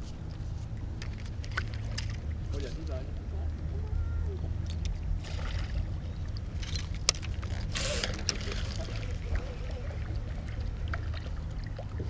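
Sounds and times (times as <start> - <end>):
steady low hum: 0.0 - 12.0
water splashing and sloshing: 0.0 - 12.0.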